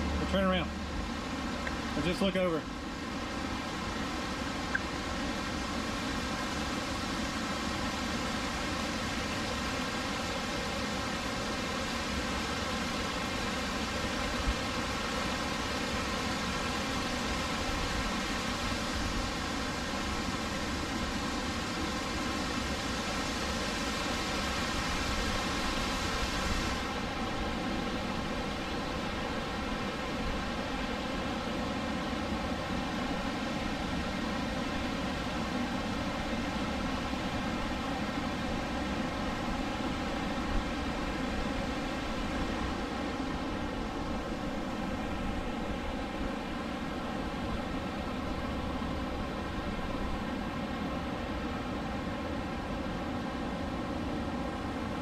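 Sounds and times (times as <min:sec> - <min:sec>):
river rapids roaring: 0:00.0 - 0:55.0.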